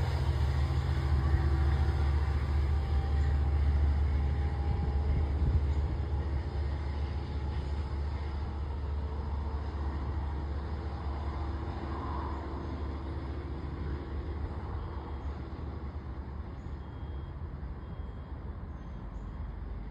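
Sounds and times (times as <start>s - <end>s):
diesel locomotive rumble: 0.0s - 19.9s.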